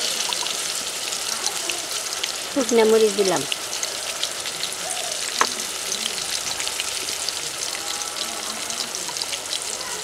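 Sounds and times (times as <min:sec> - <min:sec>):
spices sizzling in oil: 0:00.0 - 0:10.0.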